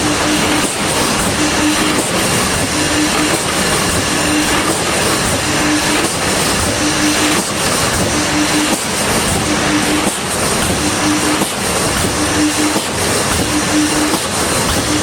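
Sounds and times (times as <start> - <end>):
welding machine clatter: 0.0 - 15.0.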